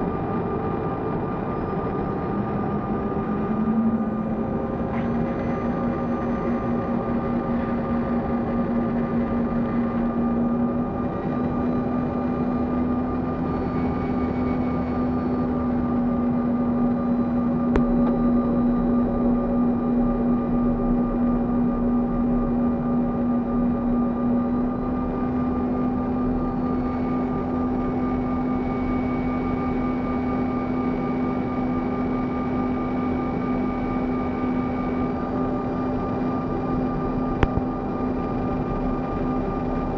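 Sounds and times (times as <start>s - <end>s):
constant droning hum: 0.0s - 39.9s
engines and airflow rumble: 0.0s - 39.9s.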